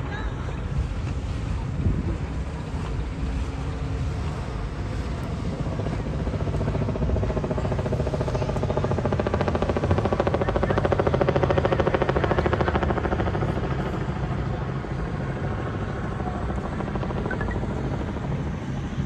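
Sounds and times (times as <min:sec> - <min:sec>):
helicopter rotor beat: 0:00.0 - 0:19.0.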